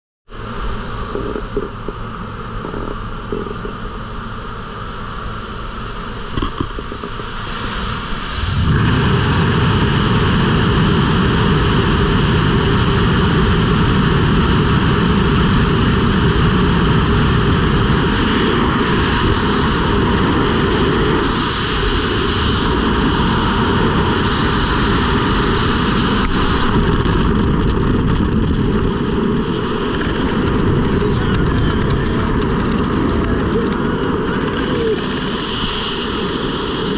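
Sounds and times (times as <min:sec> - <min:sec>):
plane engine drone: 0:00.3 - 0:36.9
freefall wind buffeting: 0:00.4 - 0:36.9.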